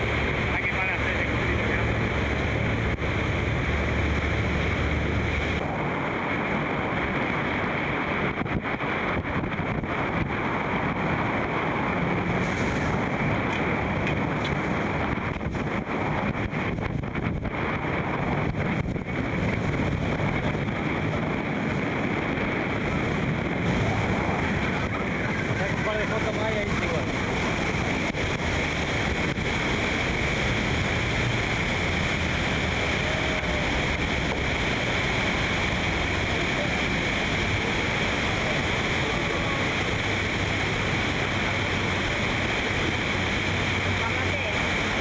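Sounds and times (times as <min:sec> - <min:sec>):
low rumble: 0:00.0 - 0:45.0
waterfall rushing: 0:00.0 - 0:45.0
wind on microphone: 0:00.0 - 0:45.0.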